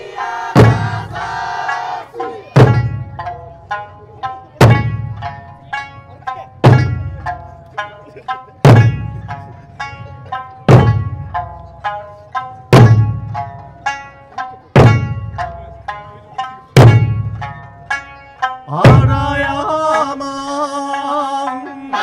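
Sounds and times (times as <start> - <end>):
barrel drums booming: 0.0 - 7.4, 8.6 - 18.0, 18.7 - 19.6
plucked string accompaniment music: 0.0 - 22.0.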